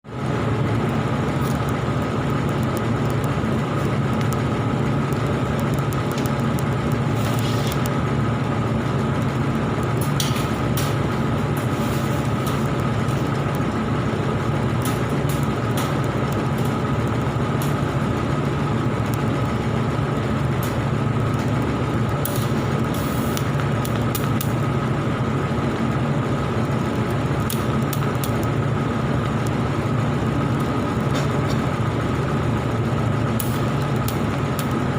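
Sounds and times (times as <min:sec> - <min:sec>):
welding buzz and hiss: 0:00.1 - 0:34.9
welding crackles: 0:00.3 - 0:25.0, 0:26.4 - 0:34.9.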